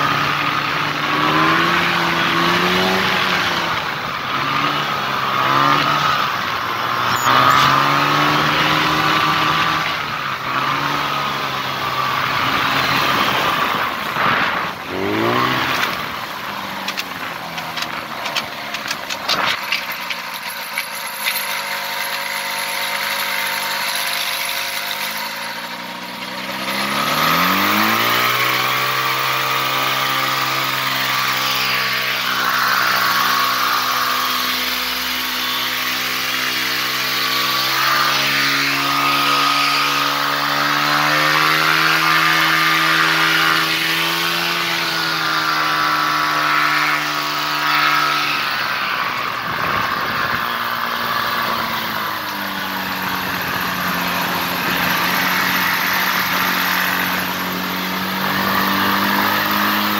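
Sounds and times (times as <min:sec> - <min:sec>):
ultralight engine and propeller running: 0:00.0 - 0:59.9.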